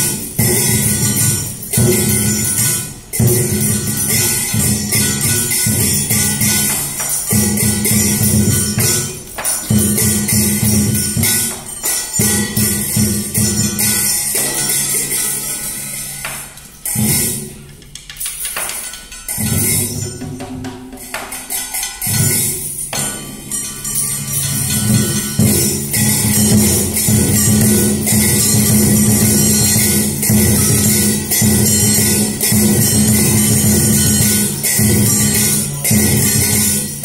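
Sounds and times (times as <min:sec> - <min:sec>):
jangling percussion: 0:00.0 - 0:37.0
low instrumental tones: 0:00.0 - 0:37.0.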